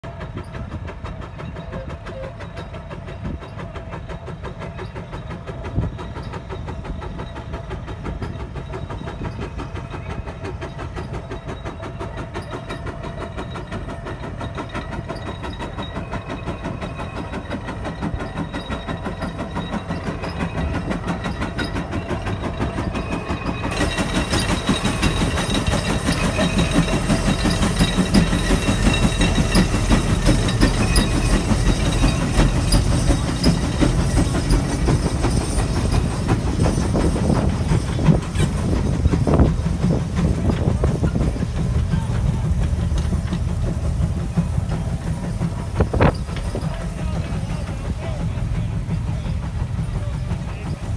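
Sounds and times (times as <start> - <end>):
steam engine exhaust beating: 0.0 - 50.9.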